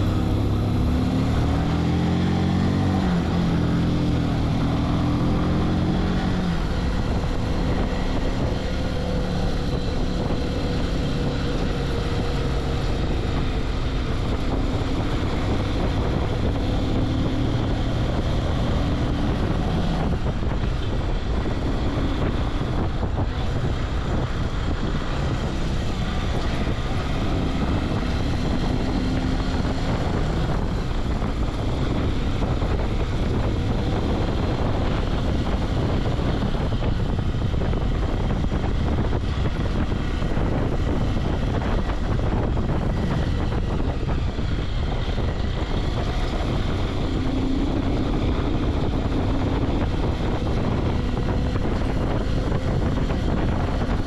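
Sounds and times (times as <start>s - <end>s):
motorcycle engine running: 0.0s - 54.0s
wind rush over microphone: 0.0s - 54.0s.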